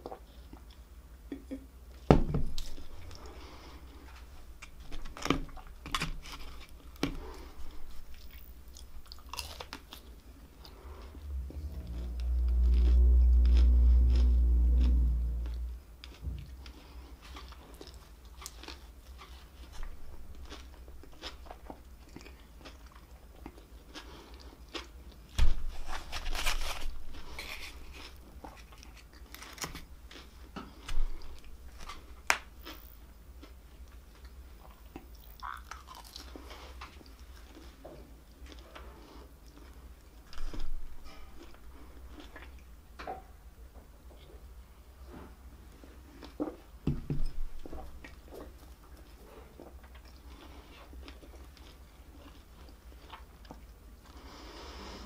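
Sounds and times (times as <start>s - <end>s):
crunchy chewing of fried food: 2.6s - 42.9s, 47.5s - 55.0s.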